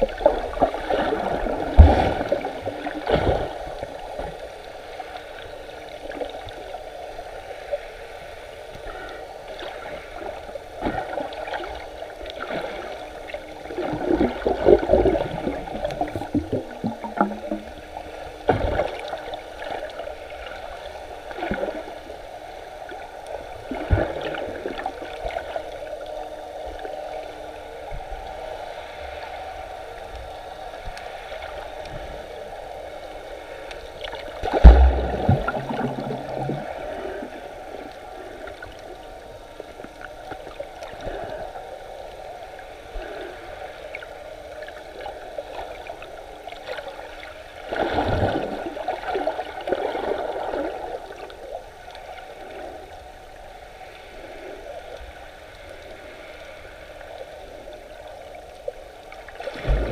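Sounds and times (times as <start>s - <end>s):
underwater sloshing and gurgling: 0.0s - 59.9s.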